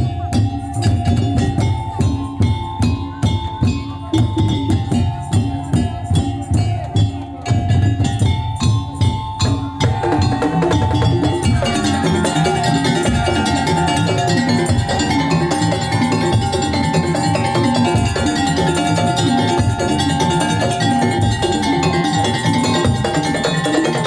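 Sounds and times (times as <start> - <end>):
wooden and bamboo percussion: 0.0 - 24.0.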